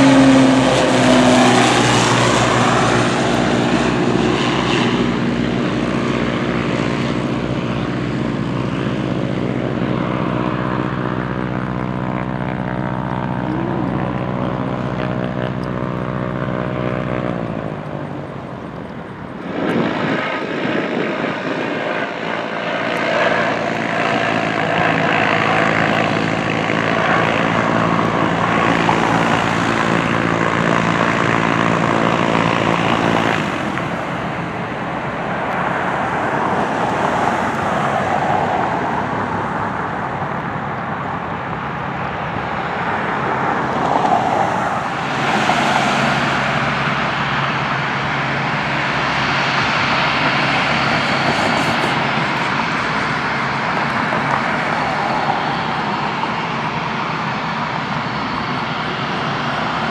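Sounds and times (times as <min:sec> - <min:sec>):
aircraft engine drone: 0:00.0 - 0:59.9
helicopter flying overhead: 0:00.0 - 0:59.9
jet turbofans whining: 0:00.0 - 0:59.9.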